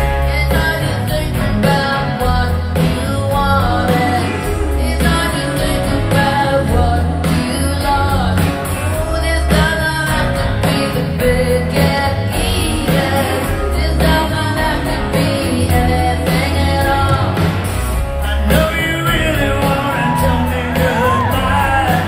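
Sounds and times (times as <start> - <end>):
woman singing: 0.0 - 17.7, 18.3 - 22.0
live rock band playing: 0.0 - 22.0.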